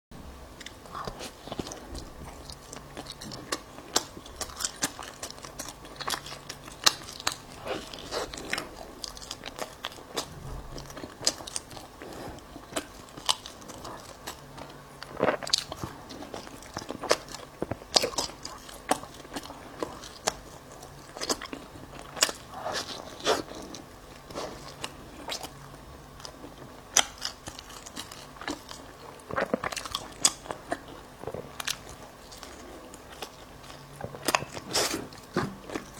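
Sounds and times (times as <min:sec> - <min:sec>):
chewing mouth sounds: 0:00.6 - 0:35.9.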